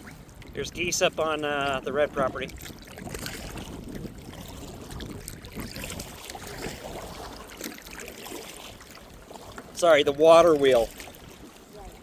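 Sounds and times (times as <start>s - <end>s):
small water splashes: 0.0s - 12.0s
water lapping around kayak: 0.0s - 12.0s.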